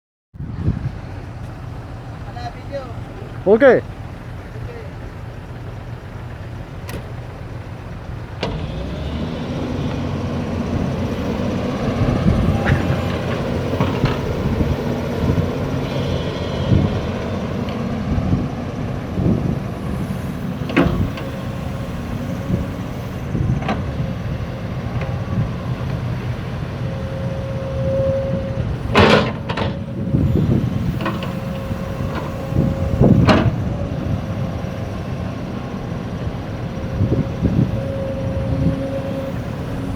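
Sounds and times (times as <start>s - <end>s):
backhoe engine running: 0.5s - 39.9s.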